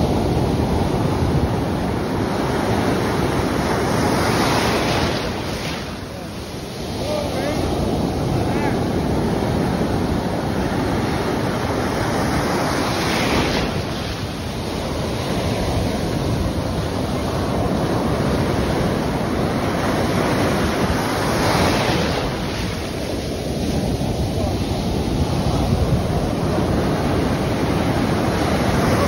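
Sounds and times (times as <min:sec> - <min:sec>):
ocean waves crashing: 0:00.0 - 0:29.0.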